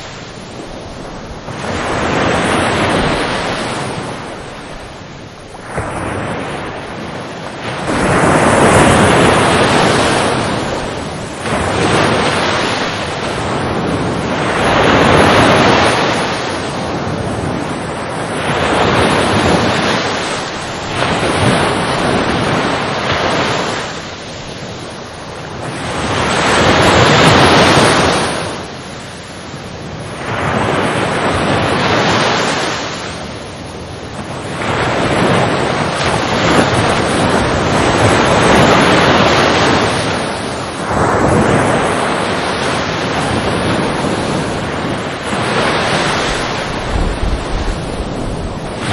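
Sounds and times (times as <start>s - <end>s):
ocean waves breaking on shore: 0.0s - 48.9s.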